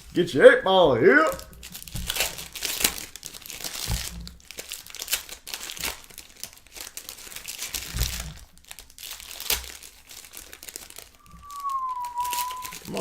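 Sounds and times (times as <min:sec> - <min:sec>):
card pack wrappers crinkling: 0:01.3 - 0:13.0.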